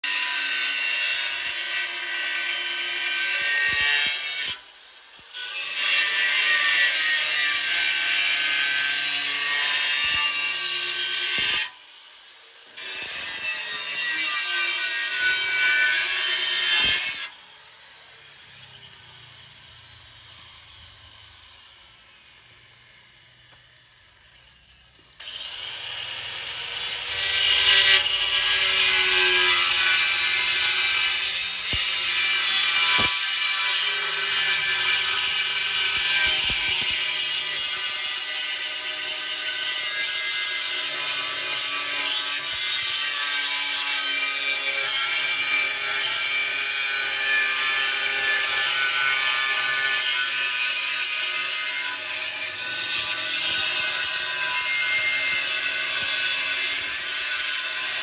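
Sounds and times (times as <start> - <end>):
tool rasping and cutting tile: 0.0 - 19.1, 25.0 - 58.0.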